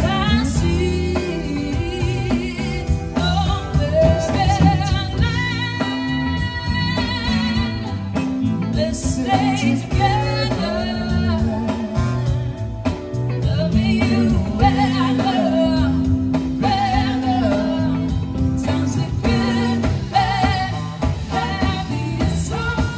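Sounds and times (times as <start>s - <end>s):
bass: 0.0s - 22.9s
drums: 0.0s - 22.9s
guitar: 0.0s - 22.9s
keyboard: 0.0s - 22.9s
person singing with wavering notes: 0.0s - 22.9s.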